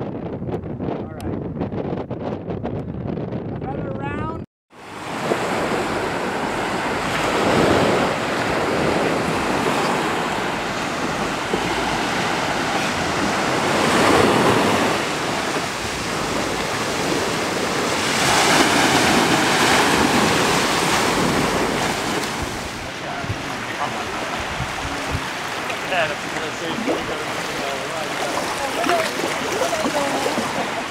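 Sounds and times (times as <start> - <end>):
wind on microphone: 0.0 - 30.9
surf breaking on beach: 4.8 - 30.9.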